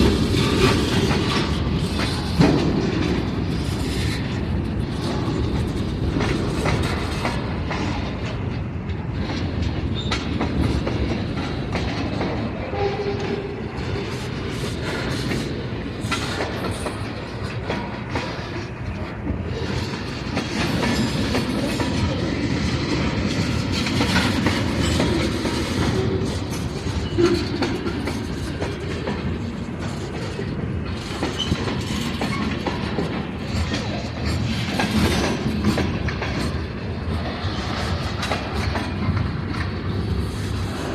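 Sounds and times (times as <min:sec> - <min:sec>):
freight train cars rolling: 0:00.0 - 0:40.9
wheels clicking over rail joints: 0:00.0 - 0:40.9.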